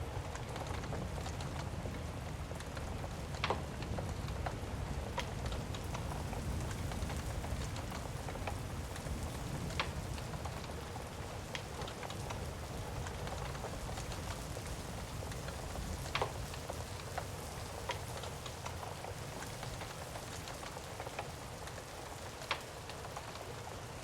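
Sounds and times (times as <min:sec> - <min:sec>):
steady rain: 0:00.0 - 0:24.0
fire crackling pops: 0:00.1 - 0:24.0.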